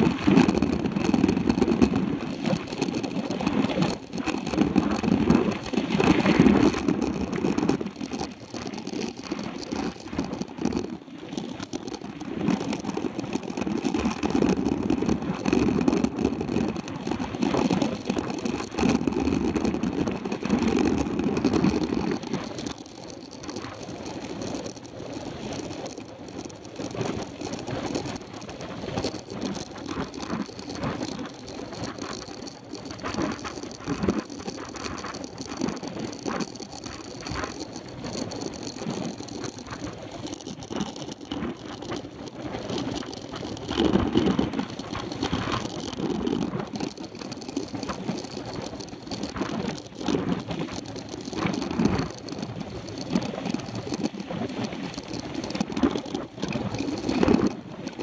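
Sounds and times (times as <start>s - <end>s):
bike rattling over bumps: 0.0s - 57.6s.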